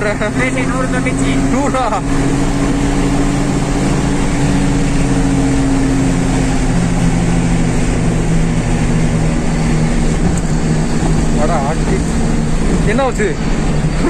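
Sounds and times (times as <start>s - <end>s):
car engine drone: 0.0s - 14.0s
road and wind noise: 0.0s - 14.0s.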